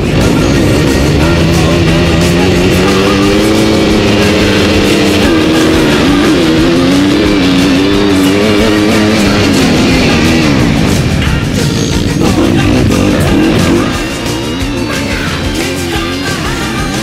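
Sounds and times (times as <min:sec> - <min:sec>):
motocross bike engine revving: 0:00.0 - 0:17.0
rock music: 0:00.0 - 0:17.0.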